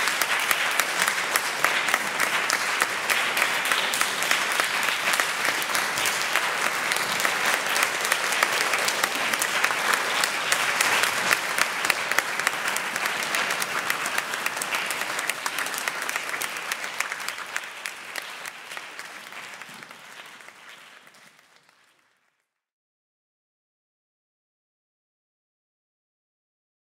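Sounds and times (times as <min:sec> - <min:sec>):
audience applauding: 0:00.0 - 0:22.6.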